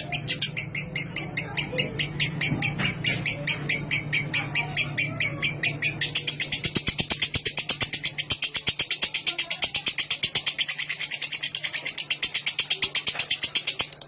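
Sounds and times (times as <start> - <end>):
lovebird shrill rattling trill: 0.0 - 14.0.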